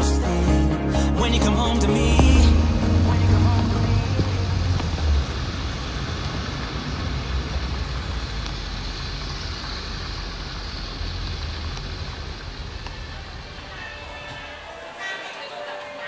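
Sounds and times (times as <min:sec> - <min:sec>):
car road noise: 0:01.6 - 0:15.0.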